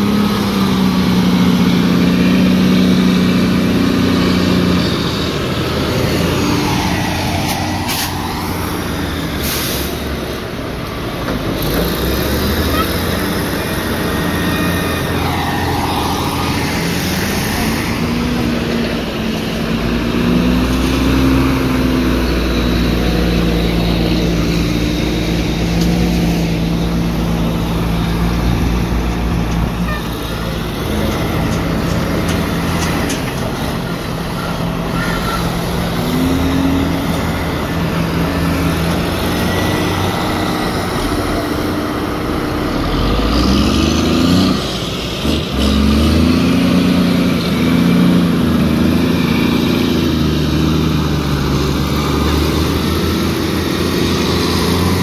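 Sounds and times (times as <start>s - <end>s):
wheel loader diesel engine revving: 0.0s - 55.0s.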